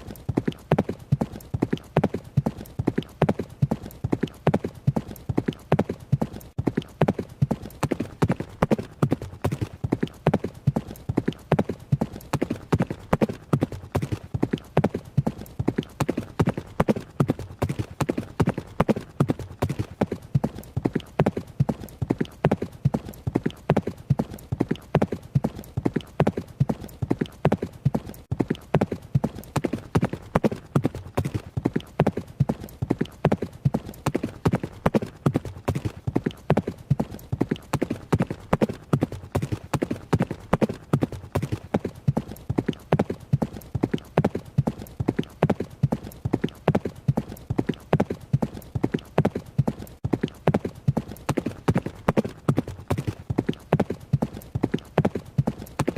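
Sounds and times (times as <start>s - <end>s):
horse hooves running: 0.0s - 55.9s.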